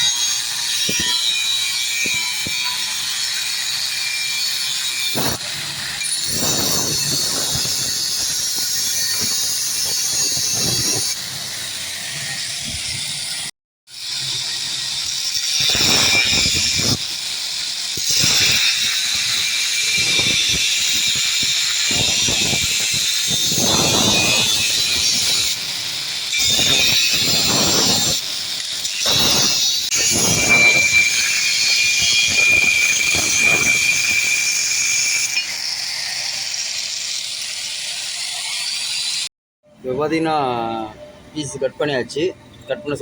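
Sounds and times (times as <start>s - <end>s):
angle grinder cutting steel: 0.0s - 39.3s.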